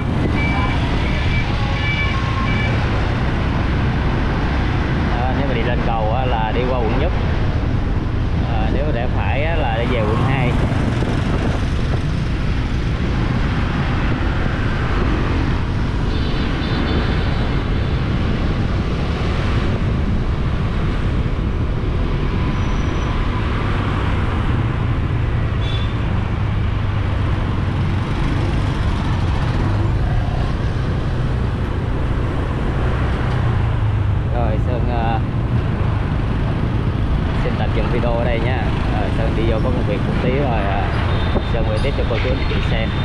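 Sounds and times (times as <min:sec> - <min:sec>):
busy street traffic: 0:00.0 - 0:43.0.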